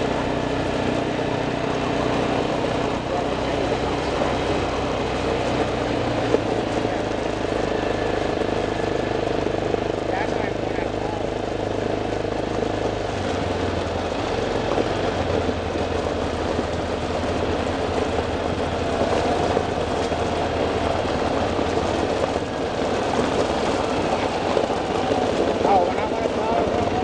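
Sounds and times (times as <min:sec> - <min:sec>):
road and wind noise: 0:00.0 - 0:27.0
vehicle engine running: 0:00.0 - 0:27.0.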